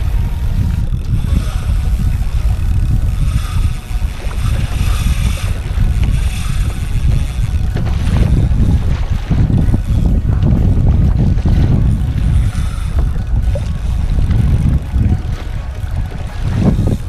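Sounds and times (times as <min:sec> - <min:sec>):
choppy sea hissing: 0:00.0 - 0:17.0
wind buffeting microphone: 0:00.0 - 0:17.0.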